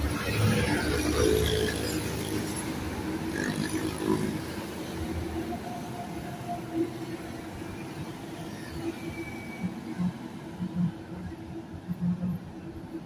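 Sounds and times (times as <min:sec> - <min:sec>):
highway traffic hum: 0:00.0 - 0:13.0.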